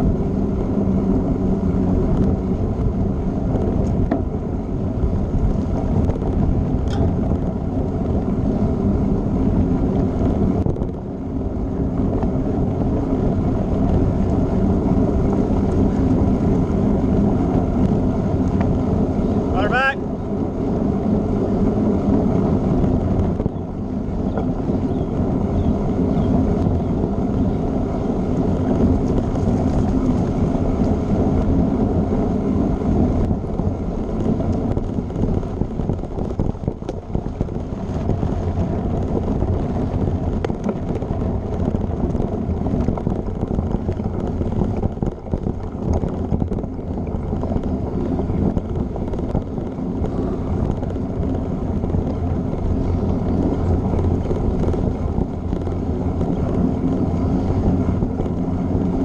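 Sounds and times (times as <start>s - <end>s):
bike tyres rumbling on dirt: 0.0s - 59.0s
wind buffeting microphone: 0.0s - 59.0s.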